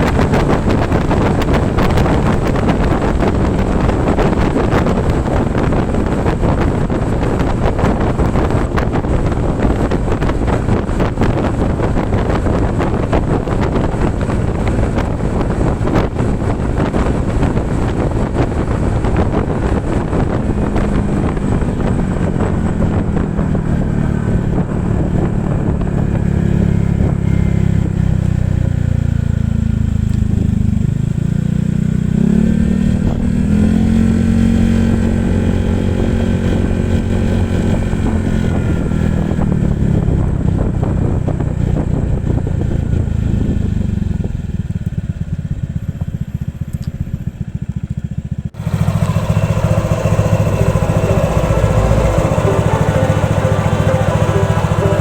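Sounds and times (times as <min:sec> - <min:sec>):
wind rush on microphone: 0:00.0 - 0:44.7
scooter engine running: 0:00.0 - 0:55.0.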